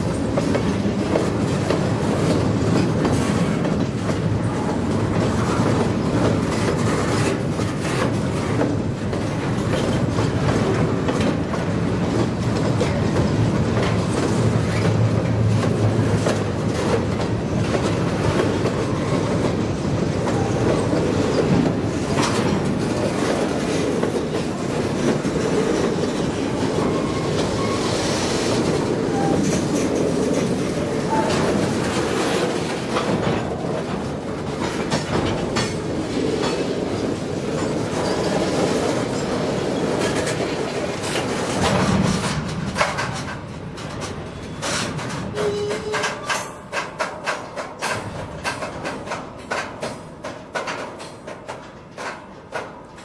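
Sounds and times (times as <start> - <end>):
wheels clacking over rail joints: 0.0 - 53.0.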